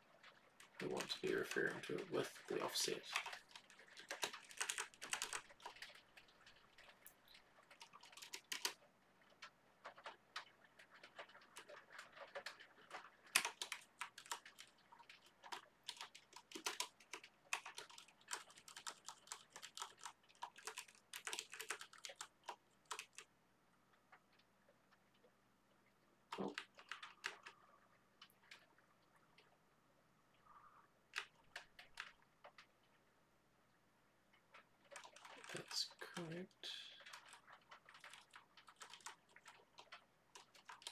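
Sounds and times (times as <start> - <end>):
keyboard typing: 0.6 - 23.3, 26.3 - 28.8, 31.1 - 32.7, 34.5 - 40.9.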